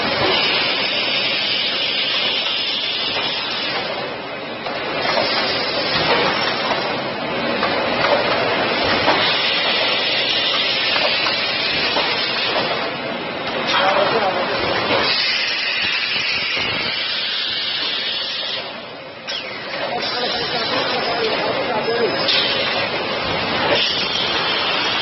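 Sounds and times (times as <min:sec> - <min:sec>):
packaging machinery hissing: 0:00.0 - 0:04.1, 0:04.9 - 0:07.2, 0:07.8 - 0:12.9, 0:13.8 - 0:25.0.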